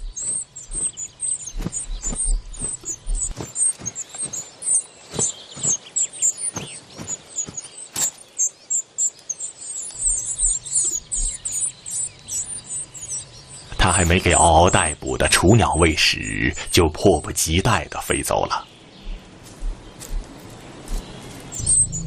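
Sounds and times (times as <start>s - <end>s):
birds chirping high and thin: 0.0s - 22.0s.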